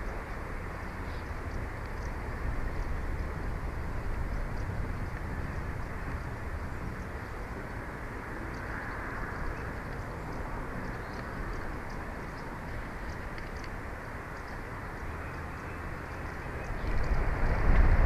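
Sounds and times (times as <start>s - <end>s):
wind with low rumble: 0.0s - 18.0s.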